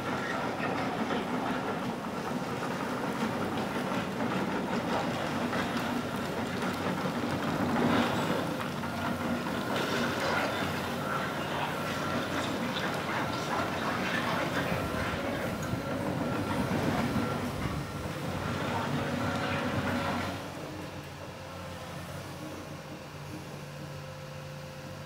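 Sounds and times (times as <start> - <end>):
steel tracks clanking: 0.0 - 20.6
excavator diesel engine: 0.0 - 24.9.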